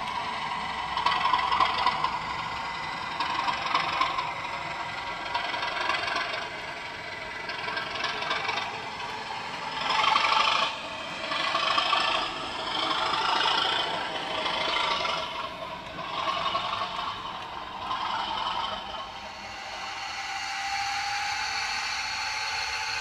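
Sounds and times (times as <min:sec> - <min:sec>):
model train wheels rattling on track: 0:00.0 - 0:20.0
diesel engine sound from small speaker: 0:00.0 - 0:23.0.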